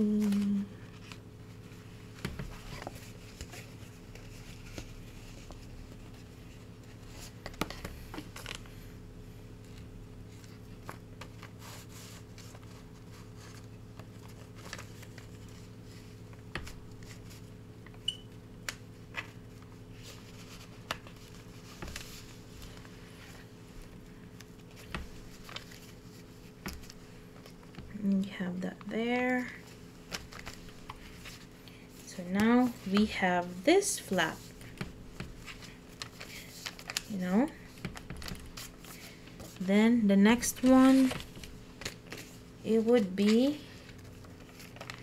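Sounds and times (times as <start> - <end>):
paper rustling: 0.0 - 8.8, 9.6 - 17.5, 19.1 - 39.7, 40.3 - 45.0
steady low hum: 0.0 - 45.0.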